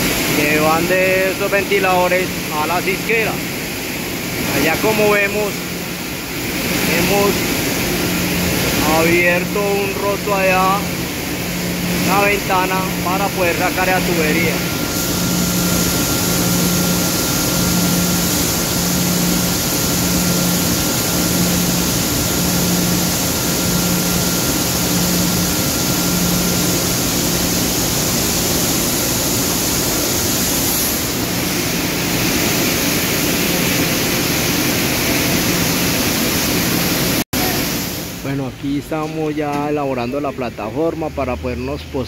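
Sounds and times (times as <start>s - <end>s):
industrial machinery roar: 0.0s - 38.6s.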